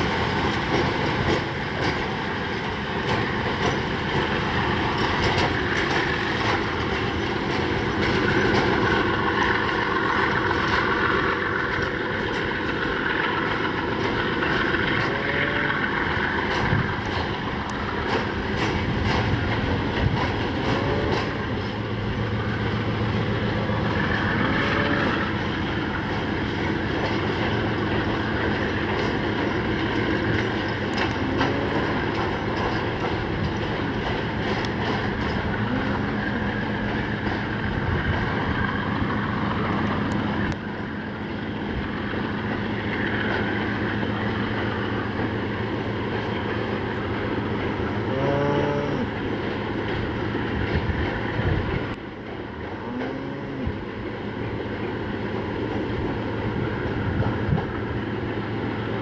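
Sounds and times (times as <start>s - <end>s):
diesel locomotive running under load: 0.0s - 59.0s
wheels clicking over rail joints: 0.0s - 59.0s.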